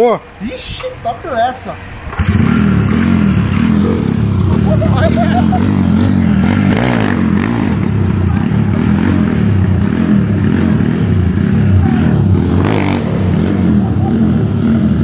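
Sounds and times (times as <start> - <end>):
motorcycle engine at low revs: 2.1 - 15.0.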